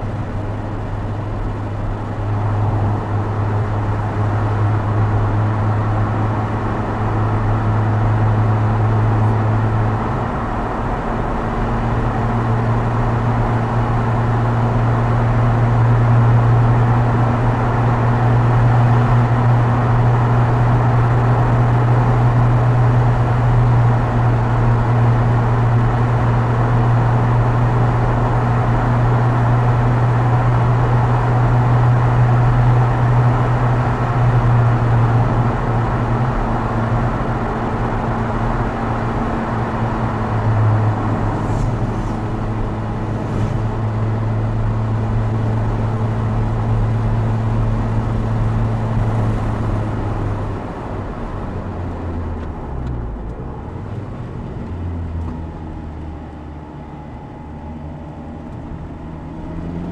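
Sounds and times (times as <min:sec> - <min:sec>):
car engine pulling at steady revs: 0:00.0 - 0:59.9
tyre and road noise: 0:00.0 - 0:59.9.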